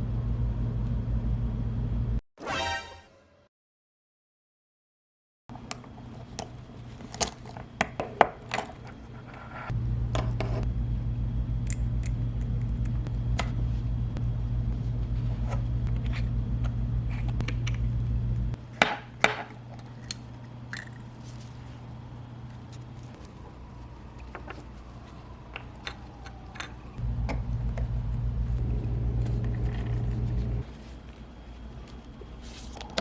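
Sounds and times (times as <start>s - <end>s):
low steady hum: 5.5s - 33.0s.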